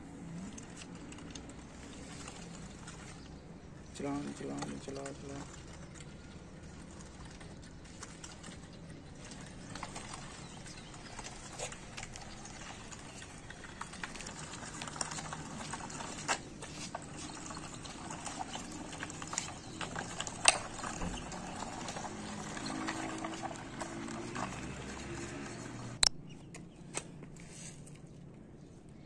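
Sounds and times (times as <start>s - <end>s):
wooden wheels rolling on concrete: 0.0s - 28.2s.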